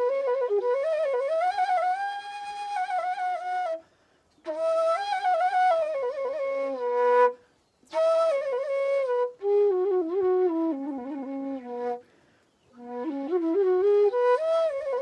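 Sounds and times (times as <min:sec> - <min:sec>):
solo flute folk tune: 0:00.0 - 0:15.0.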